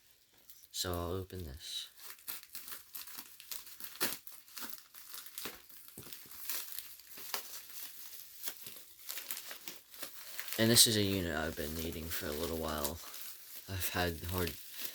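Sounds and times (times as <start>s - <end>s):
packaging crinkling and tearing: 0.0s - 14.9s.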